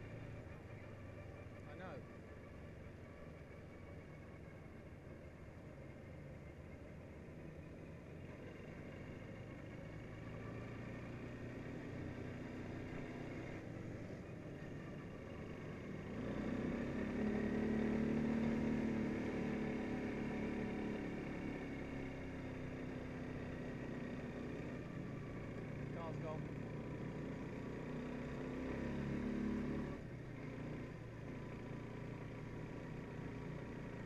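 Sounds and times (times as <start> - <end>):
quad bike engine running: 0.0 - 34.0
road and wind noise: 0.0 - 34.0.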